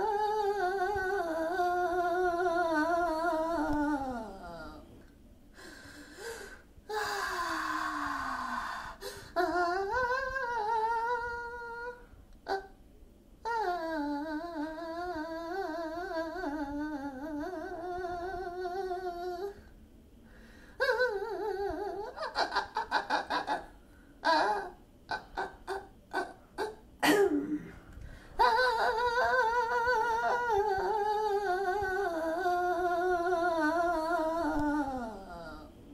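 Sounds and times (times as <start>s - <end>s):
person humming: 0.0s - 4.9s, 6.9s - 12.8s, 13.5s - 19.7s, 20.8s - 27.8s, 28.4s - 35.8s.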